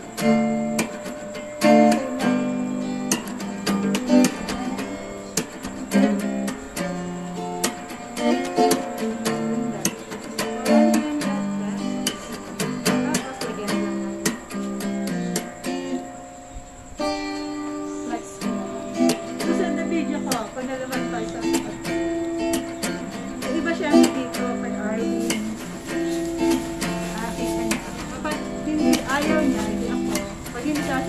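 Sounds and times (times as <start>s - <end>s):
plucked string melody: 0.0s - 31.0s.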